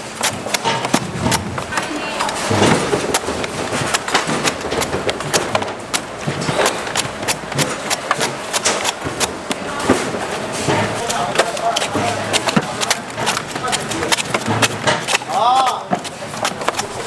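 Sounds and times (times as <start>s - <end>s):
knife chopping coconuts: 0.0s - 17.0s.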